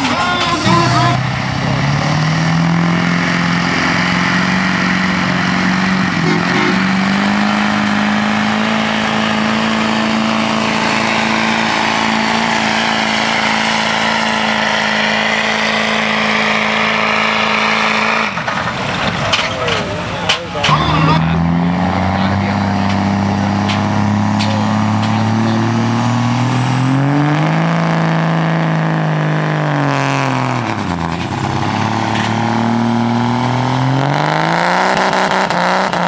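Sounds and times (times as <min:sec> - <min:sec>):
diesel truck engine at full throttle: 0:00.0 - 0:36.0.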